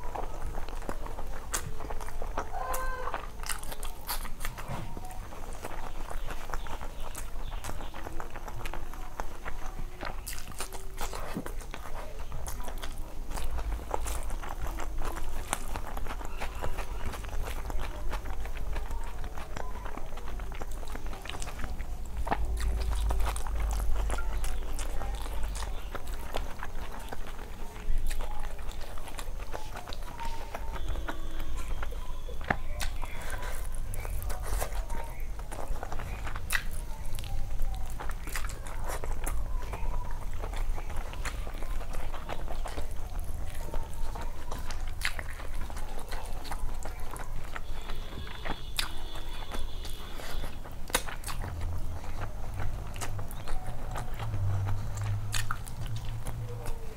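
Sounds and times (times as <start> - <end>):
chewing and lip-smacking: 0.0 - 56.9
steady low hum: 0.0 - 56.9.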